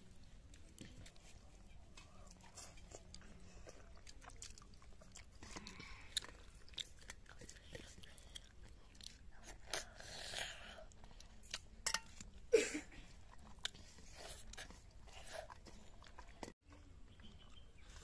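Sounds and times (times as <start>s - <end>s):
child chewing food: 0.0s - 18.0s.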